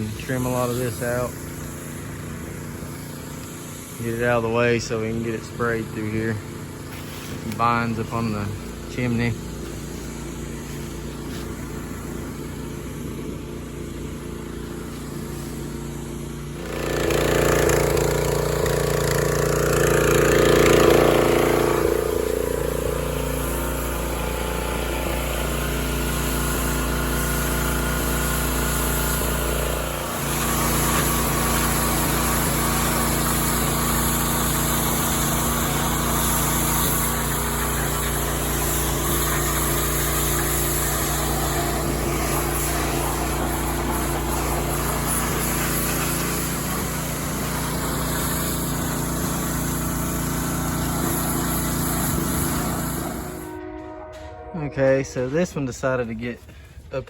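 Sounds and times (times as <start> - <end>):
small gasoline engine running: 0.0 - 53.5.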